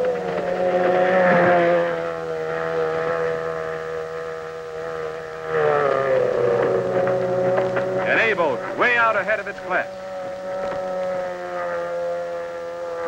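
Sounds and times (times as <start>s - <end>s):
outboard motors whining: 0.0s - 13.0s.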